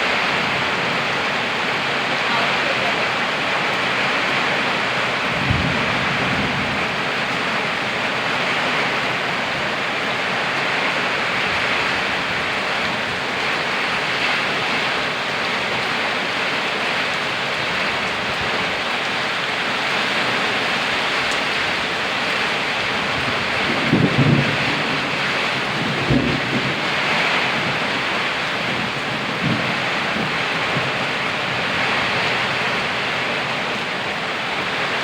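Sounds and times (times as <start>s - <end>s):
heavy rain hissing: 0.0s - 35.0s.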